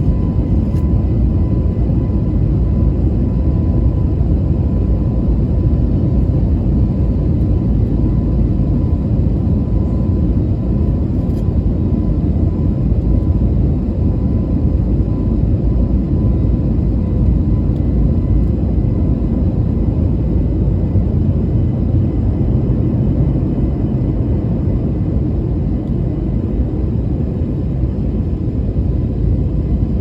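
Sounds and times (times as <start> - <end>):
aircraft engine and airflow drone: 0.0 - 30.0.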